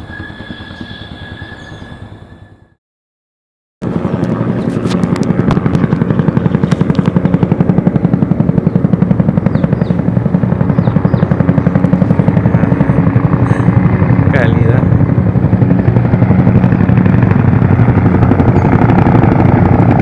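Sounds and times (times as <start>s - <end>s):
helicopter rotor chopping: 3.8s - 20.0s.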